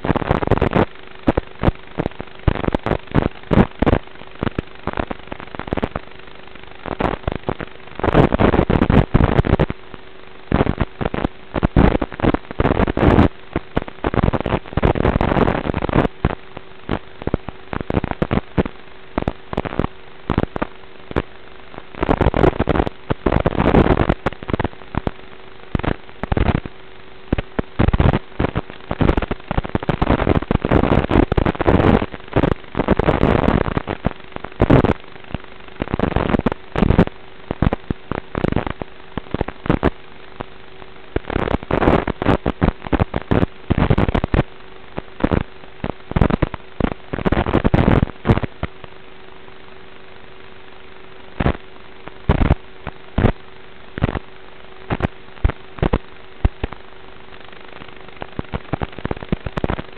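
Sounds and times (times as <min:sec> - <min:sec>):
static crackle: 0:00.0 - 0:59.9
steady hiss: 0:00.0 - 0:59.9.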